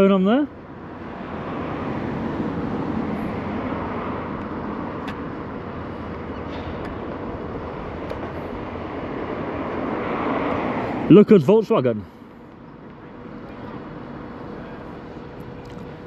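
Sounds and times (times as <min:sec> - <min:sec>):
car driving on road: 0:00.0 - 0:16.0.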